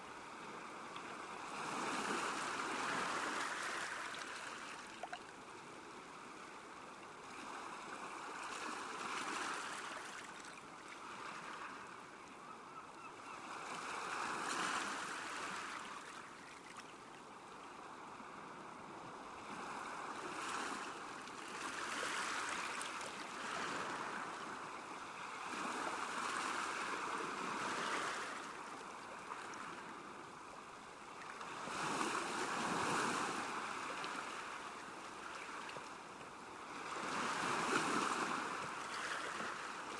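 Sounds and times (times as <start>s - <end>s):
small waves washing on shore: 0.0s - 12.2s, 13.4s - 39.9s.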